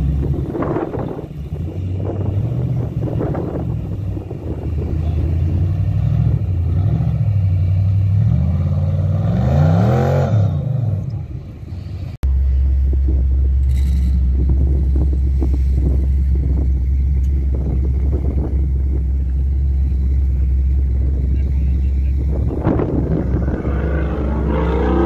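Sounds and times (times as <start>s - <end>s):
steady low rumble: 0.0s - 9.2s, 10.6s - 25.0s
buggy engine revving: 0.0s - 25.0s.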